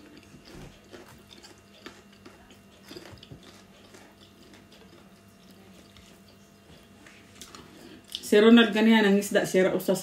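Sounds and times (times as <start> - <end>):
person chewing: 0.0 - 8.2
low steady hum: 0.0 - 10.0.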